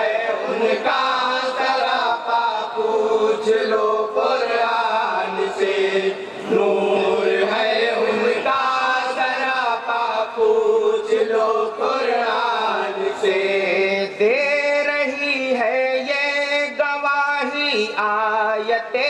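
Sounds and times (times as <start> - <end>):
group of men singing: 0.0 - 19.0.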